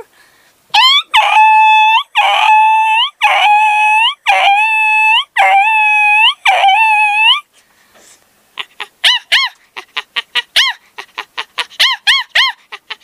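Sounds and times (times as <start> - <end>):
person imitating dog whines: 0.7 - 7.5, 8.6 - 13.0.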